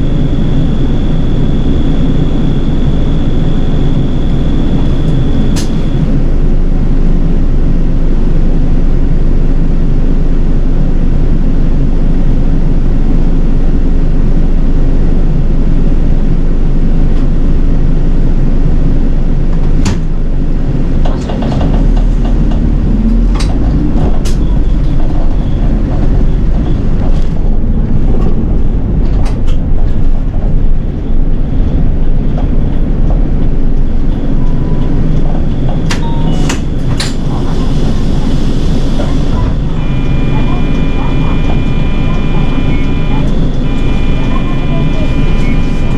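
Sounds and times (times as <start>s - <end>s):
bus engine and road drone: 0.0s - 45.9s.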